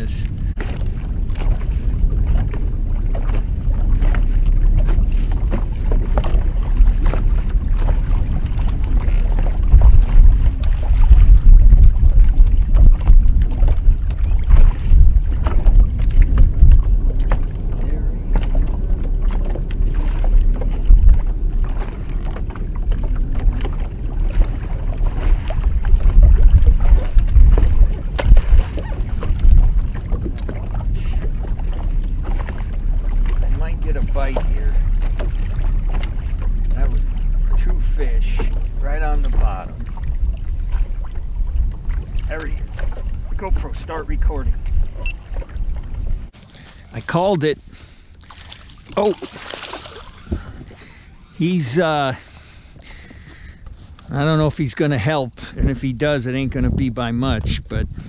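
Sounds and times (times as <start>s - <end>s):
water slapping against boat: 0.0s - 58.0s
wind buffeting microphone: 0.0s - 58.0s.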